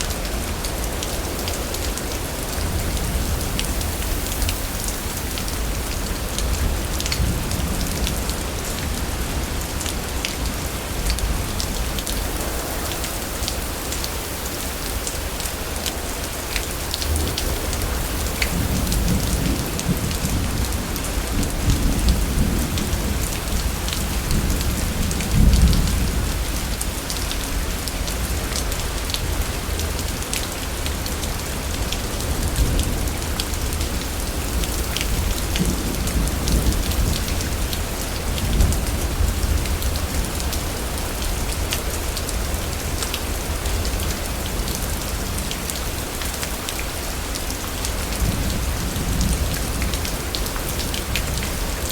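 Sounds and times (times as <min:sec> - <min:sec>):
heavy rain with drop hits: 0:00.0 - 0:51.9.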